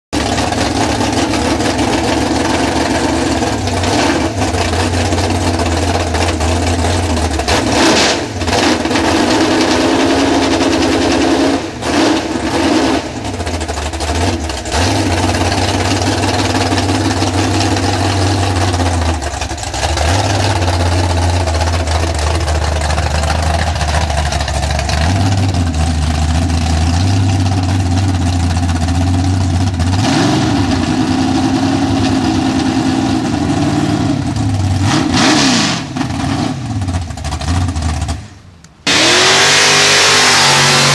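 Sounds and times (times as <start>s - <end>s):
truck engine revving: 0.2s - 40.9s.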